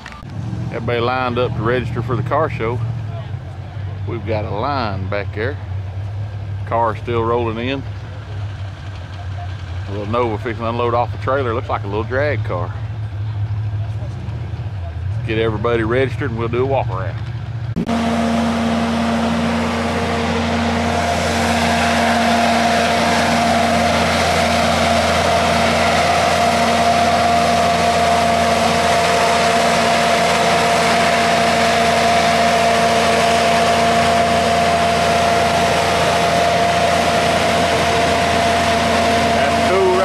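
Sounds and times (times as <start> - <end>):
vehicle engine idling: 0.0 - 40.0.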